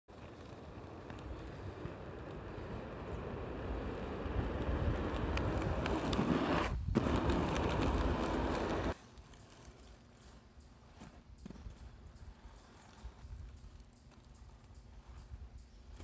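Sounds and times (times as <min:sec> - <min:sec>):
skate wheels rolling on asphalt: 0:00.1 - 0:16.0.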